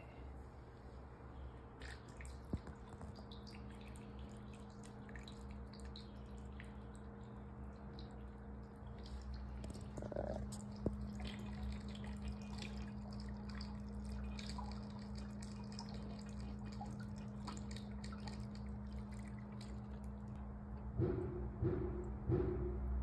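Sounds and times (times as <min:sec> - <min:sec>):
steady low hum: 0:00.0 - 0:23.0
water trickling and dripping: 0:01.8 - 0:20.4.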